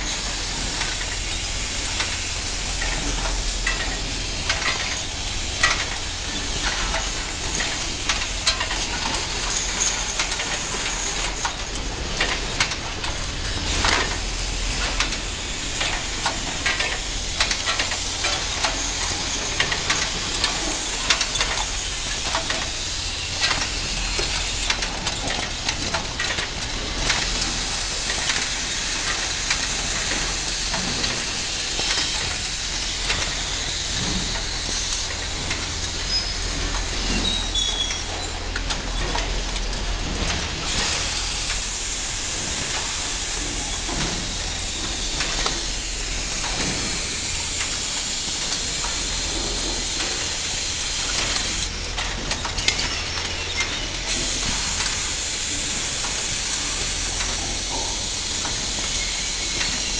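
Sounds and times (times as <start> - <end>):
machinery hiss and hum: 0.0 - 59.9
mechanism clicking and clacking: 0.6 - 59.9.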